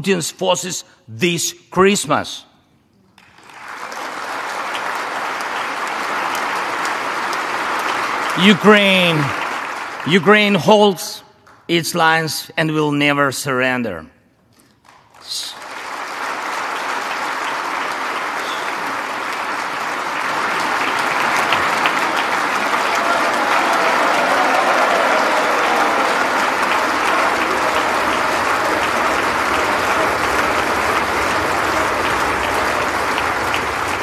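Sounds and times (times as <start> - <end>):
audience applauding: 3.2 - 11.6, 14.8 - 34.0.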